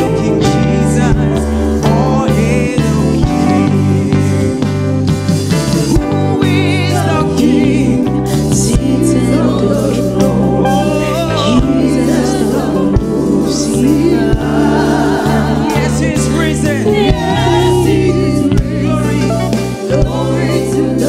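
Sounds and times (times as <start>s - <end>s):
band playing: 0.0s - 21.0s
bass line: 0.0s - 21.0s
voices singing gospel: 0.0s - 21.0s.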